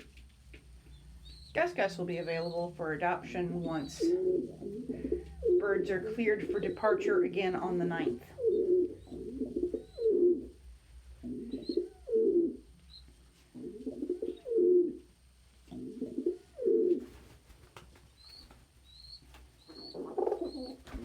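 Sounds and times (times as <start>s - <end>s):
pigeons cooing: 1.0s - 15.1s, 15.7s - 17.2s, 18.2s - 21.0s.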